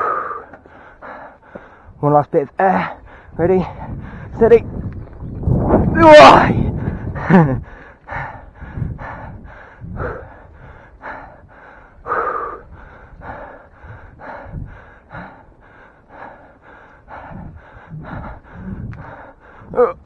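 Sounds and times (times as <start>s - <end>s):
man panting hard: 0.0s - 4.6s, 6.5s - 20.0s.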